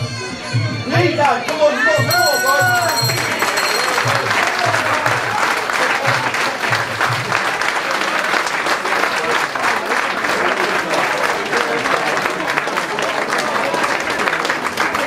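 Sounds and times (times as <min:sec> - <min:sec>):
crowd applauding: 0:02.0 - 0:15.0.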